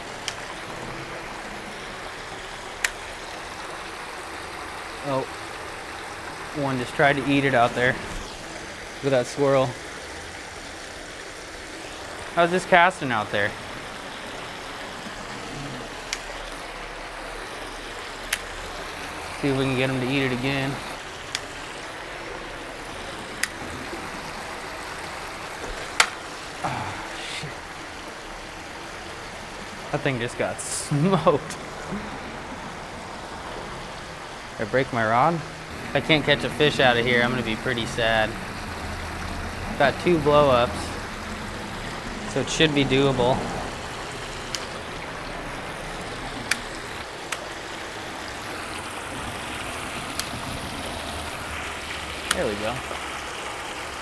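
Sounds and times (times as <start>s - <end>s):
water running through spillway: 0.0s - 54.0s.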